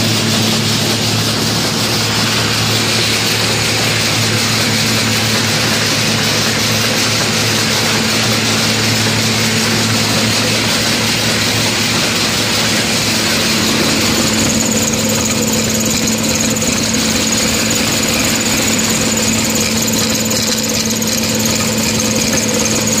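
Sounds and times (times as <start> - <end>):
thin high whine: 0.0 - 20.4
flour mill machine drone: 0.0 - 23.0.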